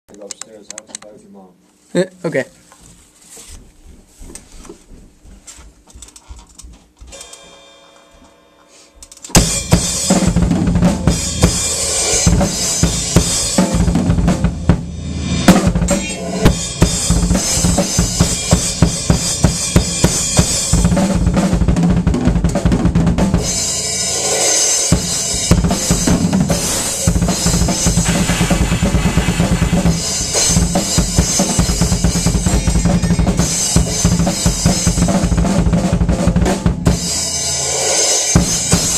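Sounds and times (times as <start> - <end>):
drum kit playing: 7.1 - 38.9.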